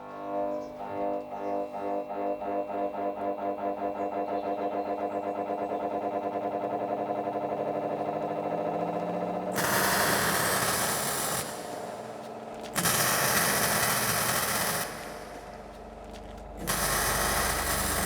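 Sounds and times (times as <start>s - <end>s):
pulsing droning musical tone: 0.0s - 18.0s.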